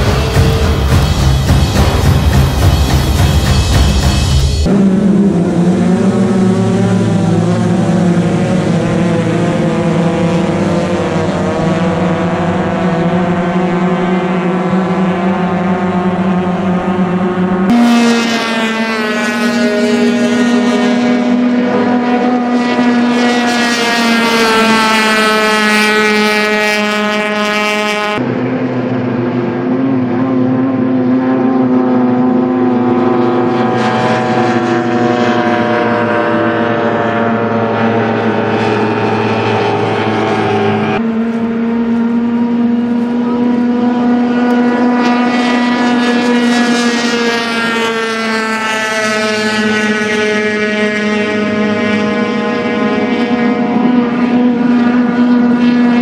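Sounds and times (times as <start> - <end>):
racing boat outboard engines: 0.0 - 56.0.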